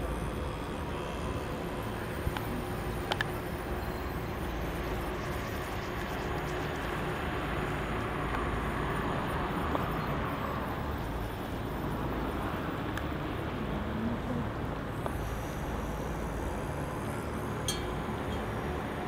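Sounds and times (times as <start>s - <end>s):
distant traffic rumble: 0.0s - 19.0s.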